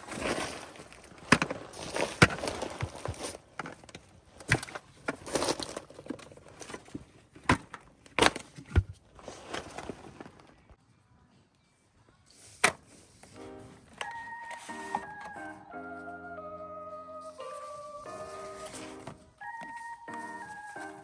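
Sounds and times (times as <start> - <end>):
rustling handling noise: 0.0 - 10.8, 12.3 - 21.0.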